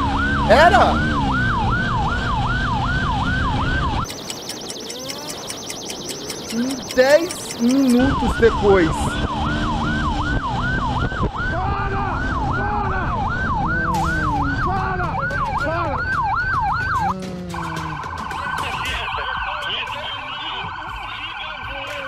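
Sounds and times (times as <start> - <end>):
engine and wind rumble: 0.0 - 20.9
motorcycle siren: 0.0 - 22.0.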